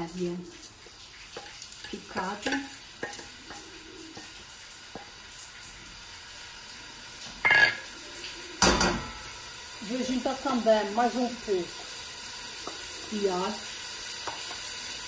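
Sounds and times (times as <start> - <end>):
onion sizzling in oil: 0.0 - 15.0.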